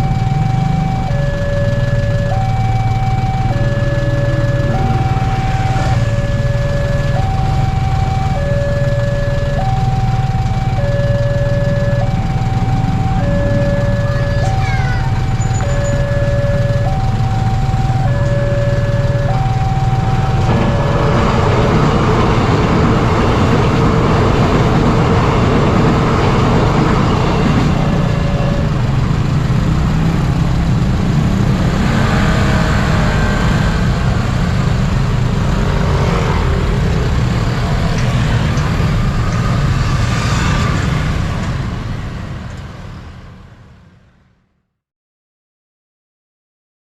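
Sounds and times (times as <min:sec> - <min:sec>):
train passing with rumble: 0:01.7 - 0:44.3.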